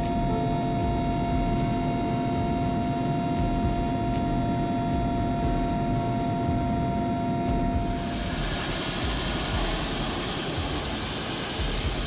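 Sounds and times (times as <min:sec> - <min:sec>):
helicopter engine whine: 0:00.0 - 0:12.0.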